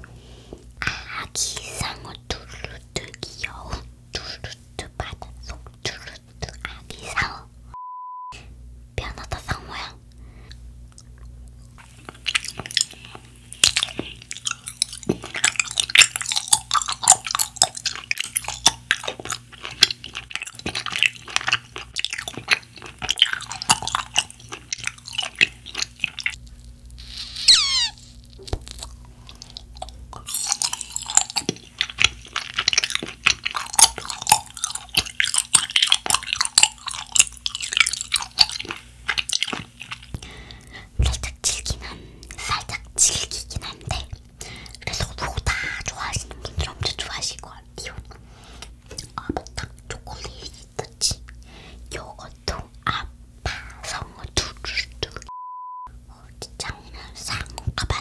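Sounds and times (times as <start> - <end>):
chewing gummy with sticky smacks: 10.5 - 55.3, 56.4 - 58.0.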